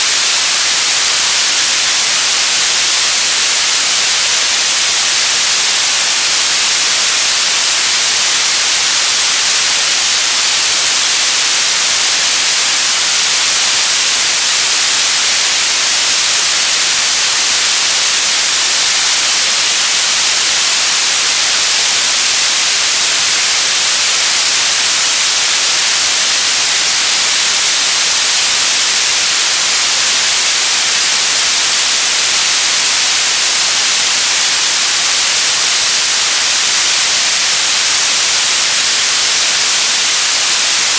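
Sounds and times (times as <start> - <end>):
radio static hiss: 0.0 - 40.9.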